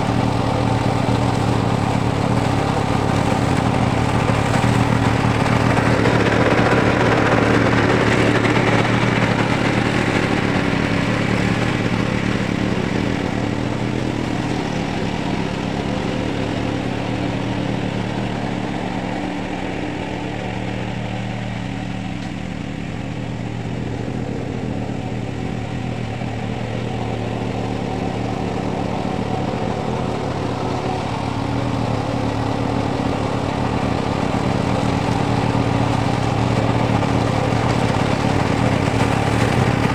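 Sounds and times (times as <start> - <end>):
flail mower engine running: 0.0 - 39.9.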